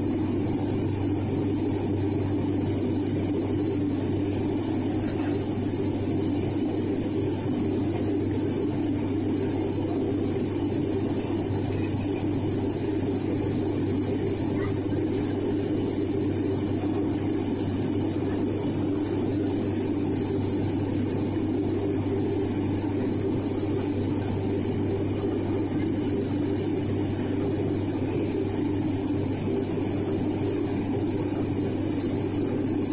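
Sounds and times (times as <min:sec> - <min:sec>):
airliner engines droning in cabin: 0:00.0 - 0:32.9.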